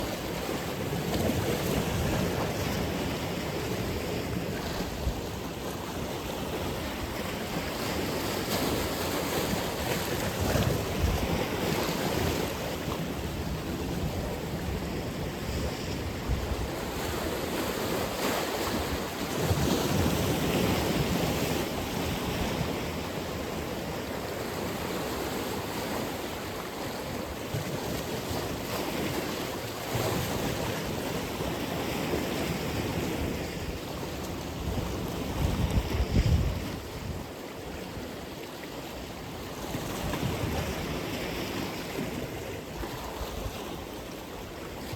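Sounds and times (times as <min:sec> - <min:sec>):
surf waves breaking: 0:00.0 - 0:44.9.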